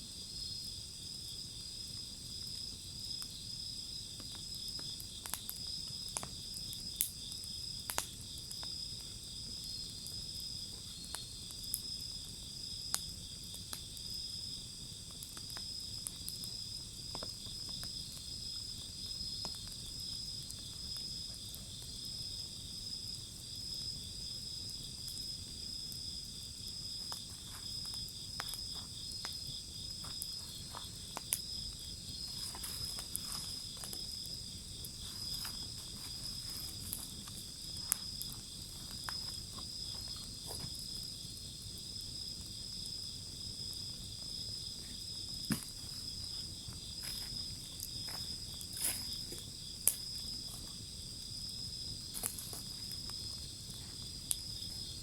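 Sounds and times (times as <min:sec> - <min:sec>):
crickets trilling: 0:00.0 - 0:55.0
wood fire crackling and popping: 0:00.0 - 0:55.0.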